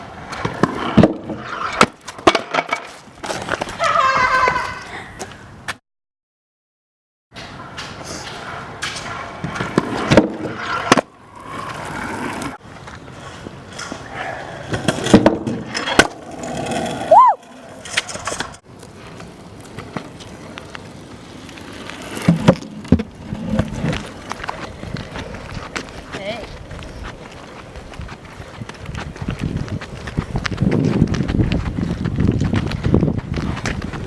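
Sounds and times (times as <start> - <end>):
skateboard rolling: 0.0 - 4.9, 7.4 - 34.0.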